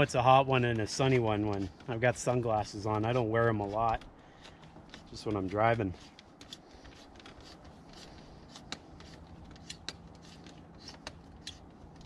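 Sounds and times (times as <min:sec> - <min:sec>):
umbrella pole rustling and clicking: 0:00.0 - 0:12.0.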